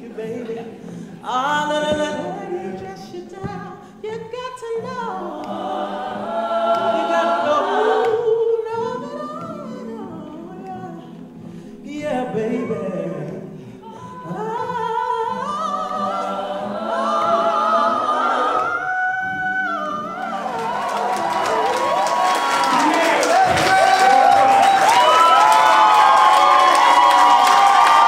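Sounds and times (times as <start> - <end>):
person singing a song: 0.0 - 24.5.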